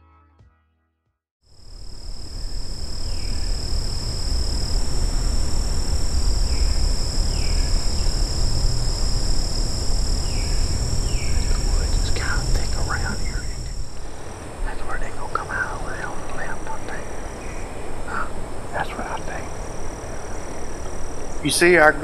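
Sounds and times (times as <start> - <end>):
frogs trilling: 1.6 - 22.0
low rumble: 1.7 - 22.0.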